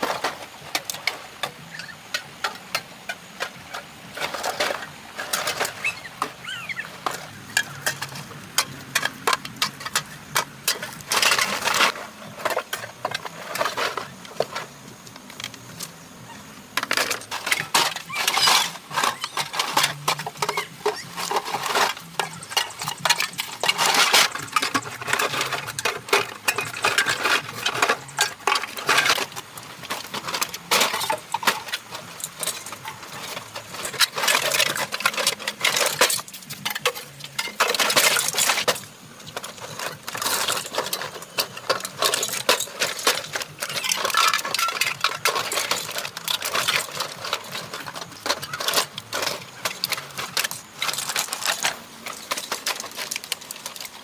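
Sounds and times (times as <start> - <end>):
dense irregular clicking: 0.0 - 54.0.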